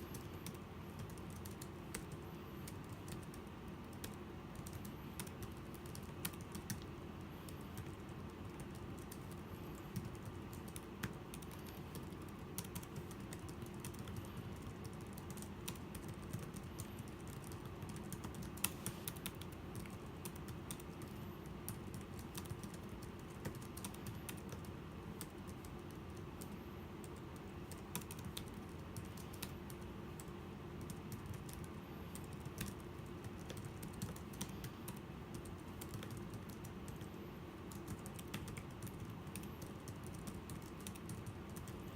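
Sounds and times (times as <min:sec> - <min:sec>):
keyboard typing clicks: 0:00.0 - 0:41.9
steady low hum: 0:00.0 - 0:41.9.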